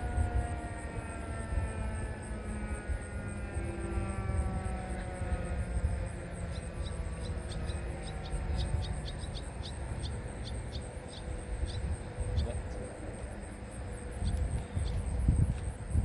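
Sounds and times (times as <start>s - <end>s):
distant tornado siren winding down: 0.0s - 16.0s.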